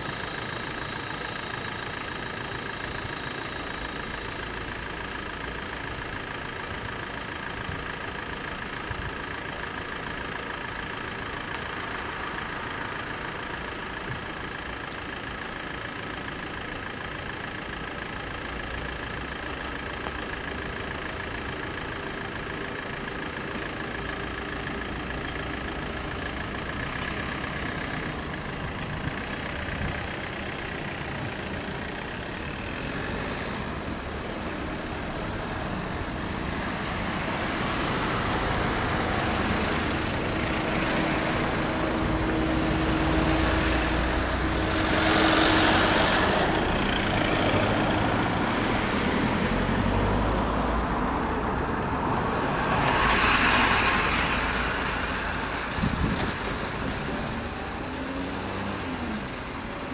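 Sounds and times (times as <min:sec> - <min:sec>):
vehicles driving past: 0:00.0 - 0:59.9.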